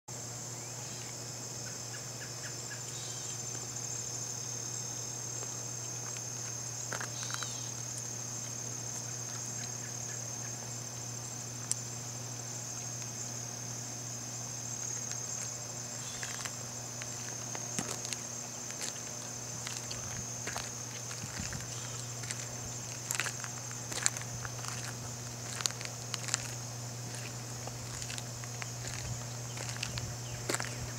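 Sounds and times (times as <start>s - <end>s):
high-pitched insect chorus: 0.1s - 30.9s.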